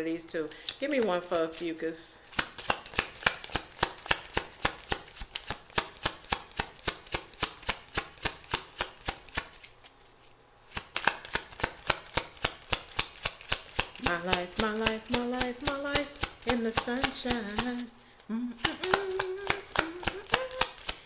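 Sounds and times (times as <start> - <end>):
cards being shuffled: 0.6 - 21.0.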